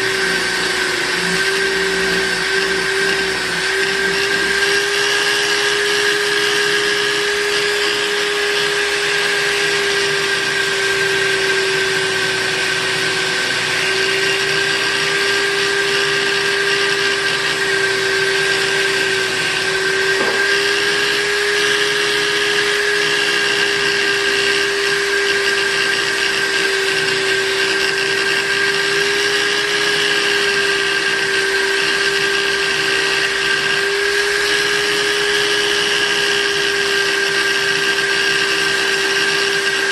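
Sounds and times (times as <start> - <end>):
buffing machine motor hum and whine: 0.0 - 39.9.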